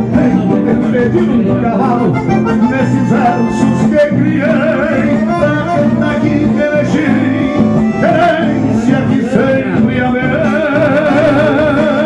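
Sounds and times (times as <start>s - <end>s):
acoustic guitar: 0.0s - 12.0s
band accompaniment: 0.0s - 12.0s
man singing: 0.0s - 12.0s.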